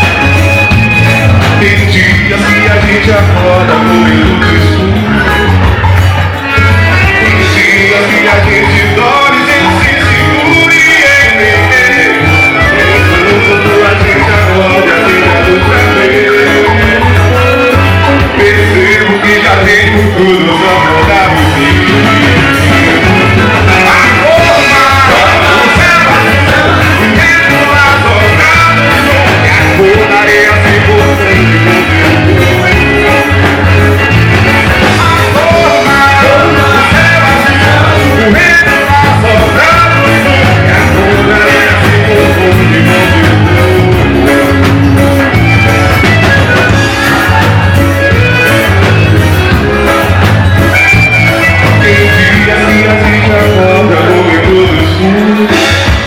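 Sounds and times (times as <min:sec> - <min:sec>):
live folk band playing: 0:00.0 - 0:56.0.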